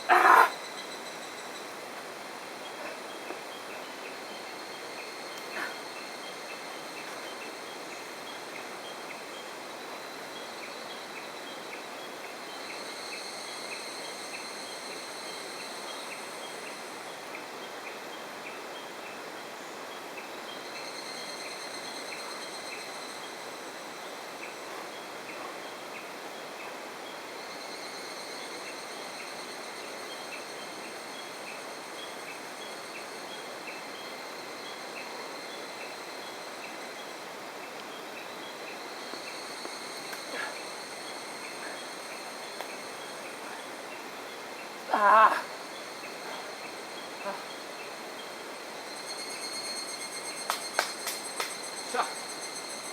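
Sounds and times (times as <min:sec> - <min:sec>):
insects buzzing: 0:00.0 - 0:52.9.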